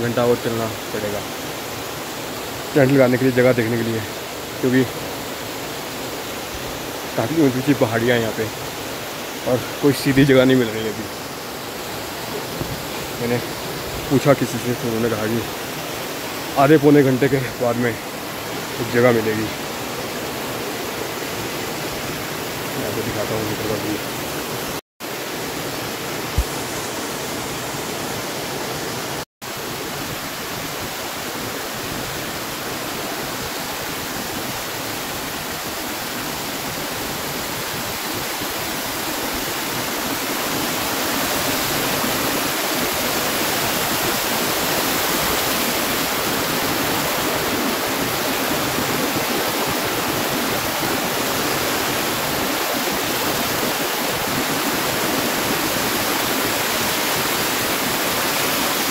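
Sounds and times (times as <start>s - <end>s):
flowing mountain water rushing: 0.0s - 58.9s.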